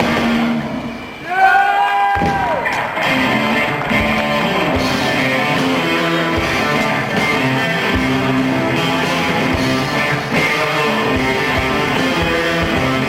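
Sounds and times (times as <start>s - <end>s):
live rock band playing: 0.0s - 1.2s, 2.6s - 13.0s
guitar: 0.0s - 13.0s.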